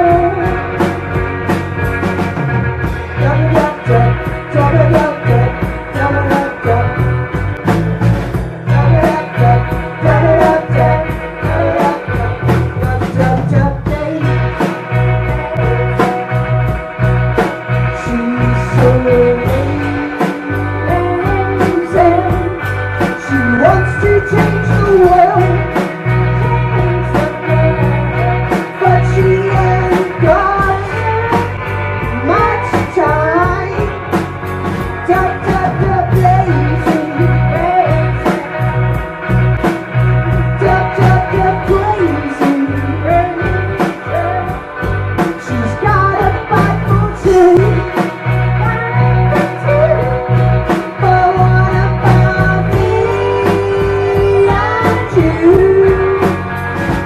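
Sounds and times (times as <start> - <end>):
rock band playing: 0.0 - 57.0
steady drum beat: 0.0 - 57.0.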